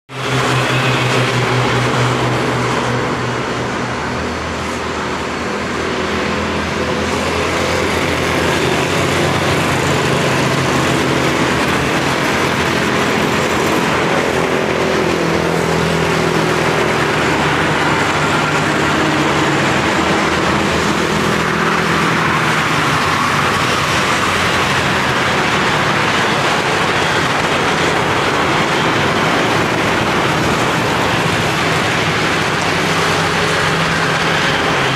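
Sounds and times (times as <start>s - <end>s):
cars and motorbikes passing: 0.1s - 34.9s
road noise: 0.1s - 34.9s.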